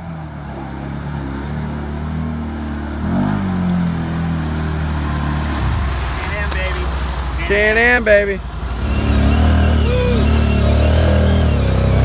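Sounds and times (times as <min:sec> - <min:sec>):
wading through muddy water: 0:00.0 - 0:12.0
atv engine revving: 0:00.5 - 0:12.0.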